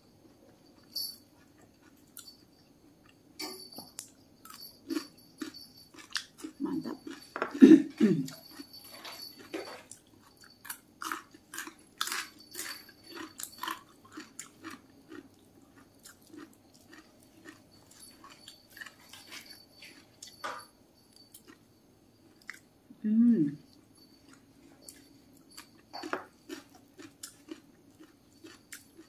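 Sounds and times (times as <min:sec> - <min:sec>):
faint steady hum: 0:00.0 - 0:29.0
person chewing food: 0:00.4 - 0:22.7, 0:23.6 - 0:29.0.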